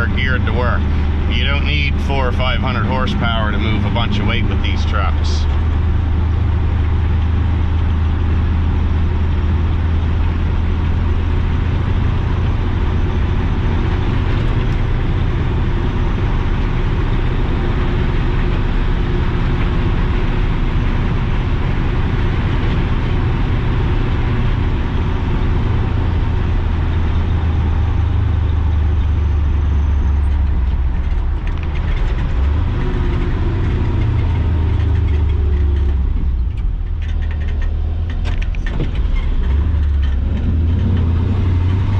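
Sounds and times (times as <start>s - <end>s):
road and drivetrain noise: 0.0s - 41.9s
truck engine under load: 0.0s - 41.9s.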